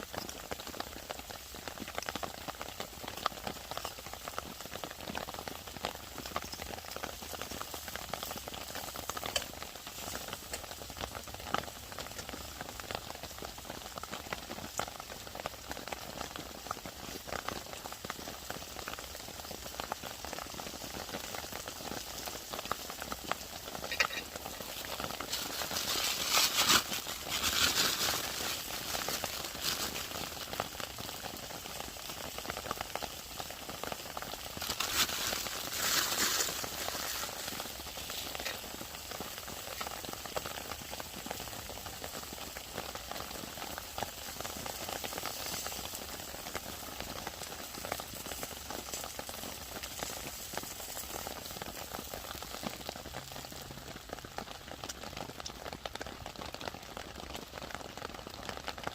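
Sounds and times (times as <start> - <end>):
burger patties sizzling: 0.0 - 58.9.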